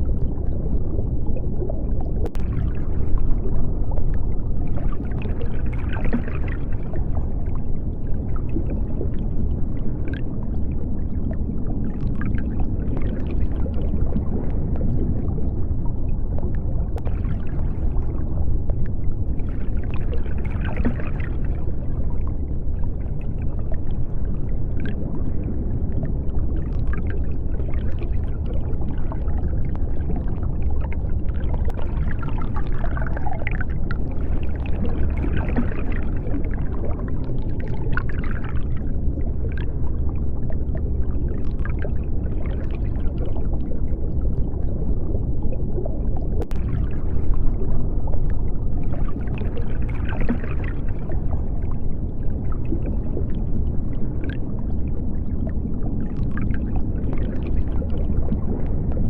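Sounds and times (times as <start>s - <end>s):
underwater rumble: 0.0s - 59.0s.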